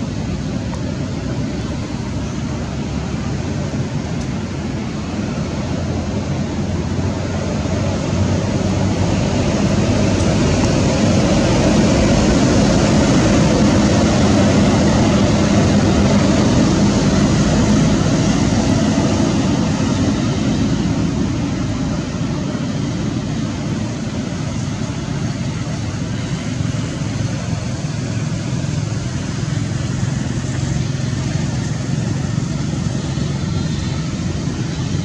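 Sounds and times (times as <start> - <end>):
vehicle engine and traffic rumble: 0.0 - 35.0.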